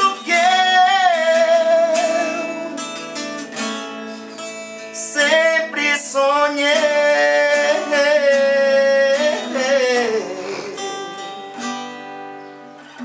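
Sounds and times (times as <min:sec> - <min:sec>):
man singing with vibrato: 0:00.0 - 0:03.4, 0:04.8 - 0:12.0
strummed acoustic guitar: 0:00.0 - 0:13.0.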